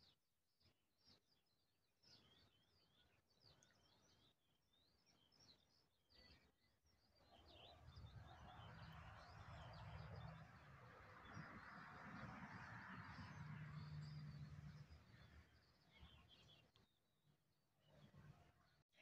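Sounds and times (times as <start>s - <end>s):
songbirds chirping: 1.0s - 19.0s.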